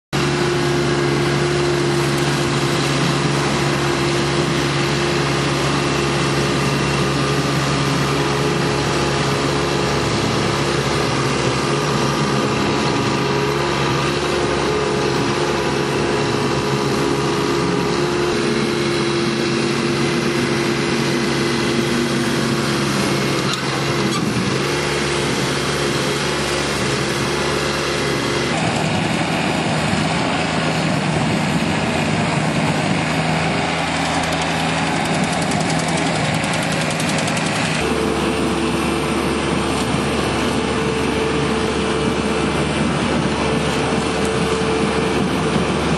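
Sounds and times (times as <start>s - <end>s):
weed cutter engine running: 0.2s - 45.9s.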